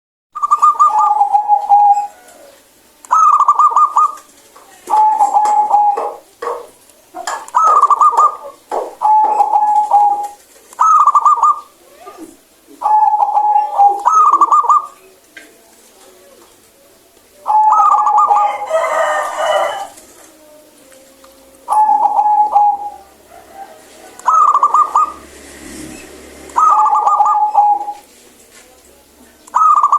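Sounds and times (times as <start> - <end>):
dove cooing song: 0.4 - 28.2, 29.5 - 29.9.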